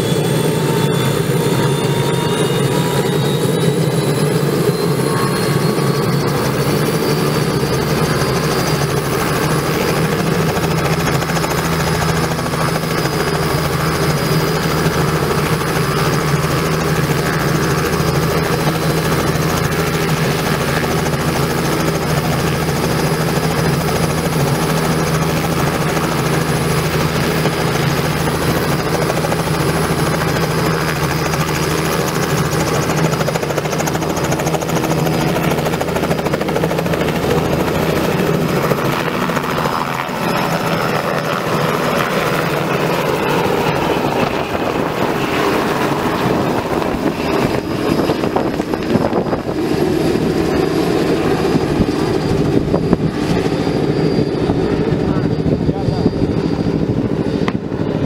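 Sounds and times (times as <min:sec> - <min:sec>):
turbine whine: 0:00.0 - 0:58.0.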